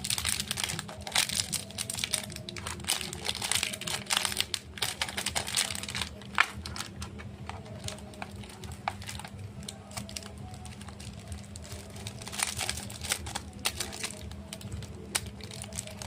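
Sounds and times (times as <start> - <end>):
wrappers crinkling: 0.0 - 16.0.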